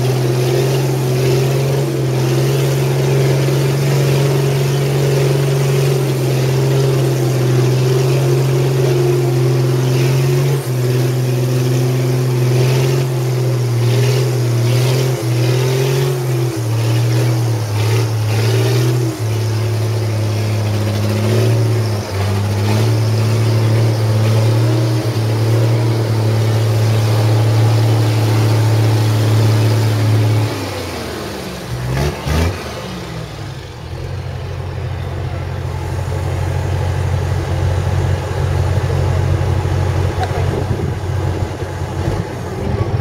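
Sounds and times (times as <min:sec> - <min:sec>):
truck engine running: 0:00.0 - 0:43.0.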